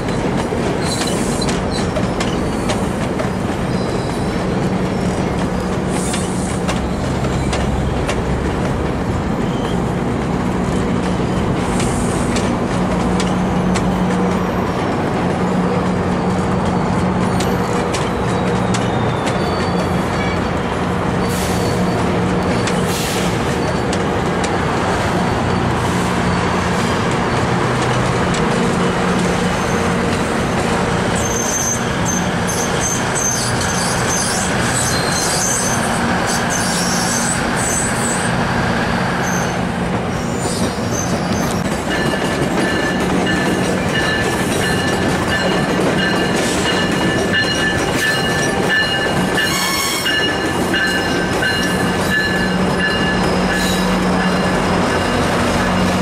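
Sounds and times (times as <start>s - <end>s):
train wheels squealing: 0.8s - 8.1s, 9.4s - 9.9s, 15.5s - 24.2s, 24.9s - 27.5s, 29.1s - 38.4s, 39.0s - 56.0s.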